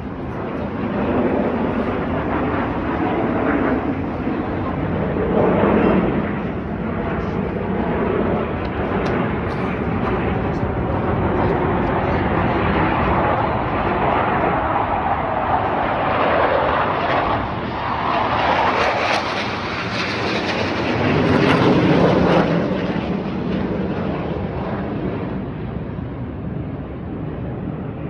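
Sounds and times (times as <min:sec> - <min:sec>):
jet aircraft flying past: 0:00.0 - 0:28.0.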